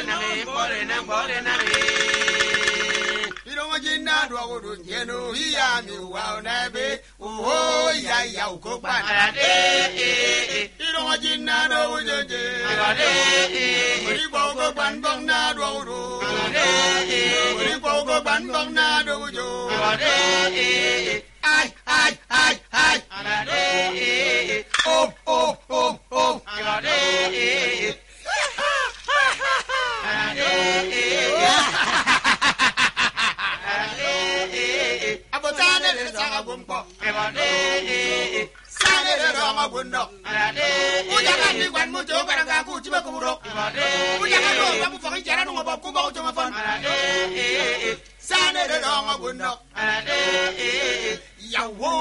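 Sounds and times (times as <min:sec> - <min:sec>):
men singing chant-like song: 0:00.0 - 0:28.0, 0:29.8 - 0:32.0, 0:33.6 - 0:52.0.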